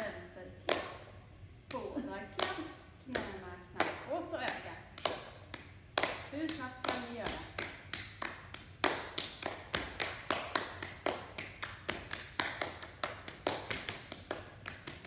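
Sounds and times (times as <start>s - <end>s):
hand-clapping game claps: 0.7s - 1.1s, 2.4s - 15.0s.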